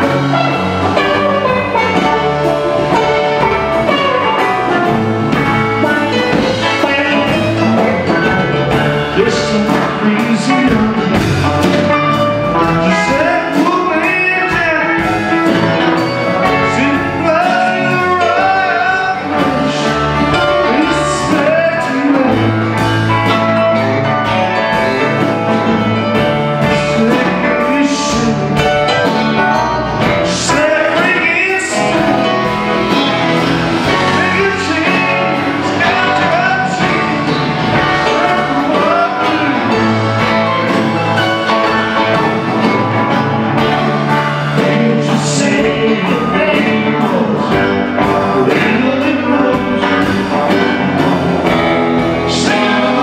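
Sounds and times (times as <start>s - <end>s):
live rock band: 0.0s - 53.0s.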